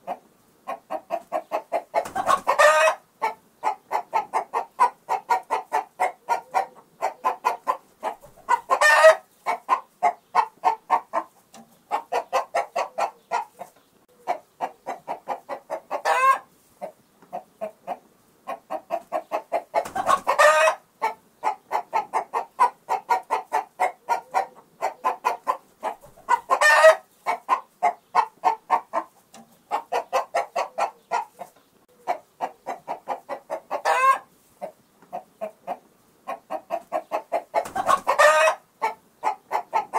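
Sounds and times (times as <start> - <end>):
chicken squawking: 0.0 - 11.3, 11.9 - 16.5, 17.4 - 29.1, 29.7 - 34.3, 35.2 - 39.9
chicken clucking: 0.0 - 39.9.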